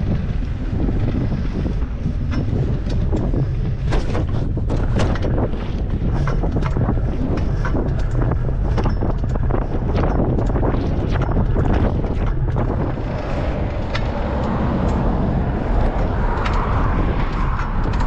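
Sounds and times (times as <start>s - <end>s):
wind buffeting microphone: 0.0s - 18.0s
sharp clicks and ticks: 0.2s - 18.0s.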